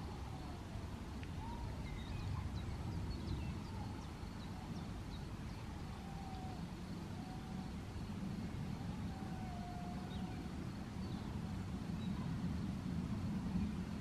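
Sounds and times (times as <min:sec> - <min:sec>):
faint bird chirps: 0:00.0 - 0:12.4
wind rumbling on microphone: 0:00.0 - 0:14.0.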